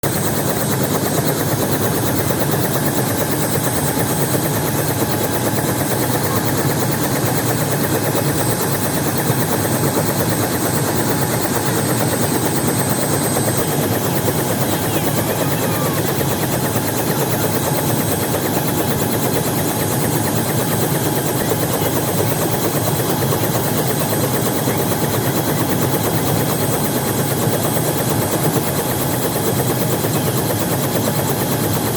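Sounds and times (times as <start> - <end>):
helicopter engine noise: 0.0 - 31.9
helicopter rotor blades chopping: 0.0 - 31.9.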